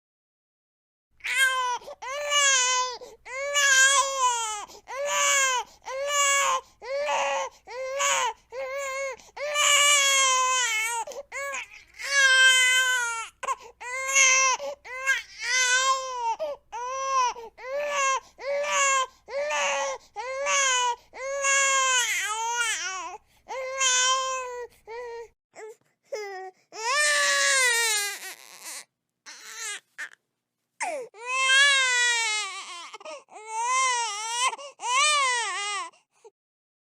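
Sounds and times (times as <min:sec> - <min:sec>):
baby crying: 0:01.2 - 0:30.2, 0:30.8 - 0:35.9.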